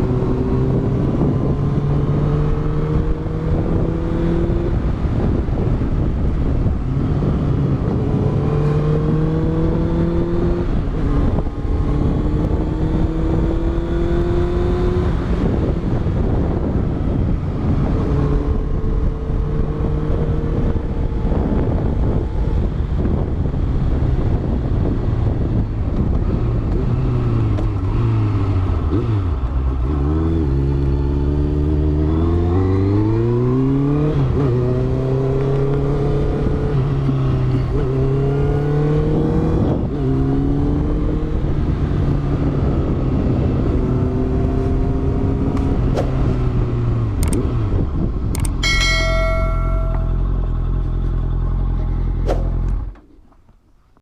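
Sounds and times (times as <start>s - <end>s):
motorcycle engine shifting gears: 0.0s - 53.9s
wind and road noise: 0.0s - 54.0s.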